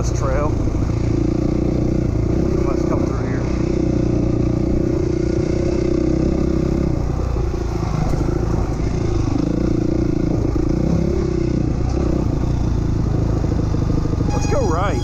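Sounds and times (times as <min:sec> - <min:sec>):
dirt bike engine under throttle: 0:00.0 - 0:15.0.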